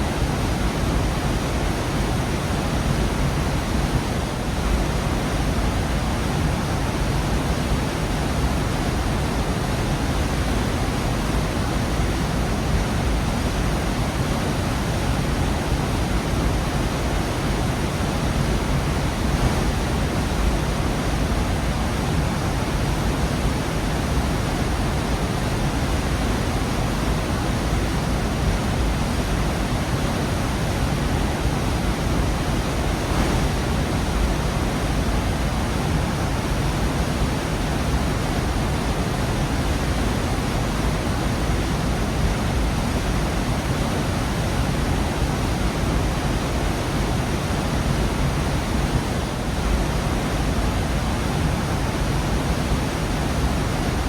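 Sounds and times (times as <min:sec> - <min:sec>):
waterfall rushing: 0:00.1 - 0:54.0.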